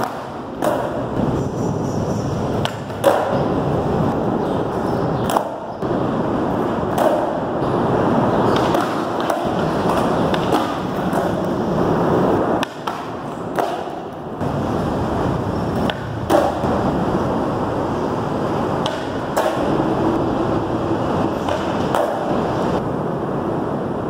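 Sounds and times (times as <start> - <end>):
skateboard clacks: 0.0 - 1.2, 2.5 - 22.8
skateboard wheels rolling on concrete: 0.0 - 24.0.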